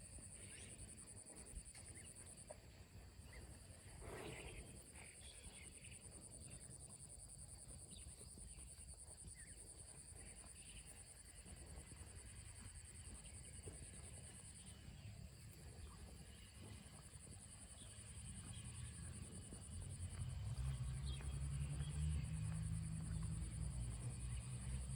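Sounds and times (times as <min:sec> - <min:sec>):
faint low rumble: 0:00.0 - 0:24.9
insects trilling: 0:03.2 - 0:24.9.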